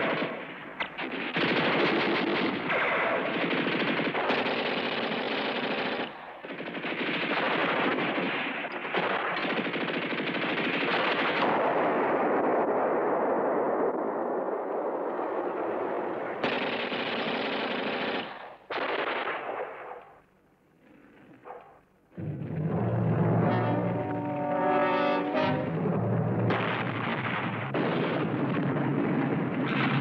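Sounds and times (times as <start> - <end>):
rifle shots: 0.0 - 12.6, 16.4 - 20.2, 21.4 - 30.0
machine-gun fire: 0.0 - 12.7, 16.4 - 20.0, 22.2 - 30.0.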